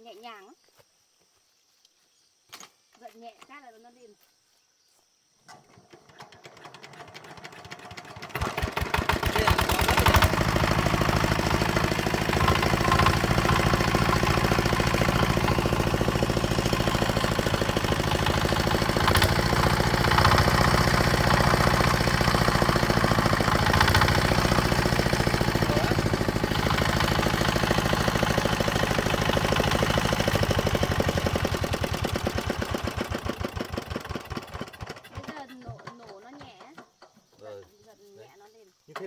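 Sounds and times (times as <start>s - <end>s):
engine pull-started: 5.4s - 37.3s.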